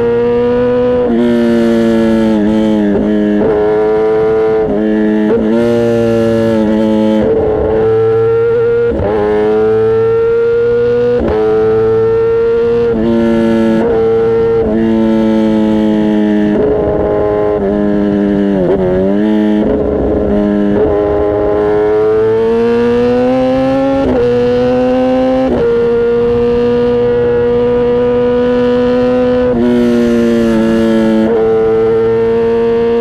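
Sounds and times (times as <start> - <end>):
motorcycle engine at high revs: 0.0 - 33.0.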